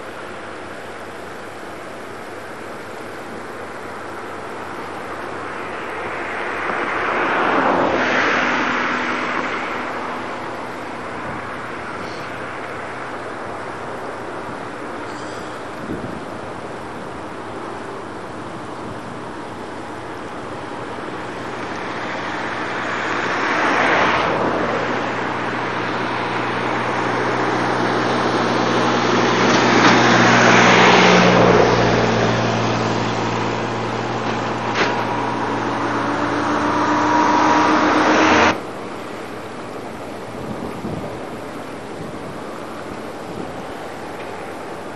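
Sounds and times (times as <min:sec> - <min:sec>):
road vehicles passing: 0:00.0 - 0:44.9.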